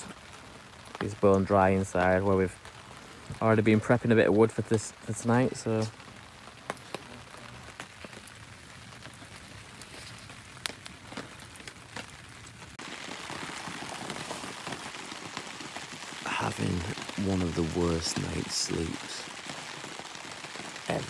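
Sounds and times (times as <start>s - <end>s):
rain hissing: 0.0s - 21.0s
sharp ticks of raindrops: 0.0s - 21.0s.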